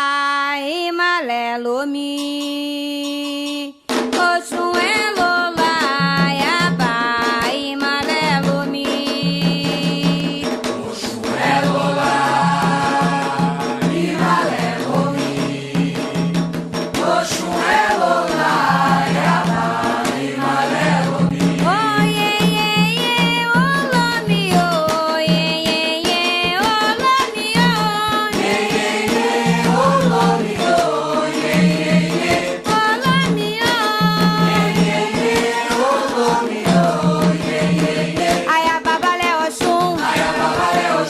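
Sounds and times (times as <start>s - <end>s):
drum percussion: 0.0s - 41.0s
rattle percussion: 0.0s - 41.0s
voices singing a chant: 4.8s - 16.4s, 17.0s - 24.9s, 27.3s - 41.0s.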